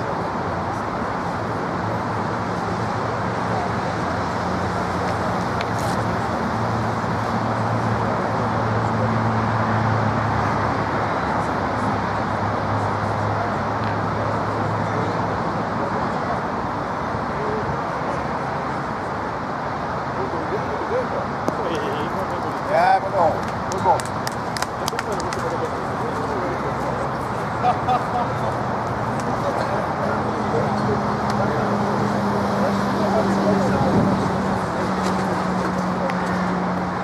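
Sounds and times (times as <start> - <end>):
distant road traffic: 0.0 - 37.0.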